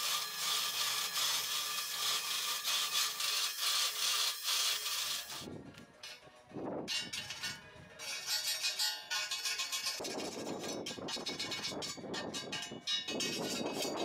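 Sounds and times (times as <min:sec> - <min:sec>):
saw disc grinding steel: 0:00.0 - 0:06.2, 0:06.9 - 0:14.0.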